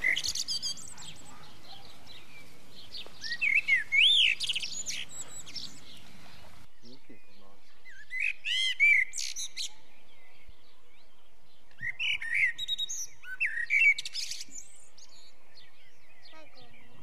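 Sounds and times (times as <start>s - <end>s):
songbird chirping and trilling: 0.0s - 17.0s.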